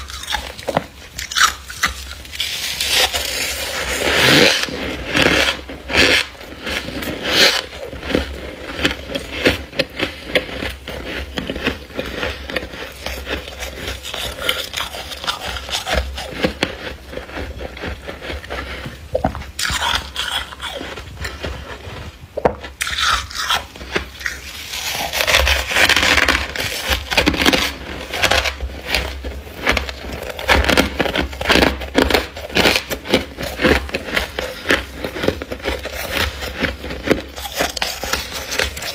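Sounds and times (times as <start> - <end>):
frost crunching and scraping: 0.0 - 38.9.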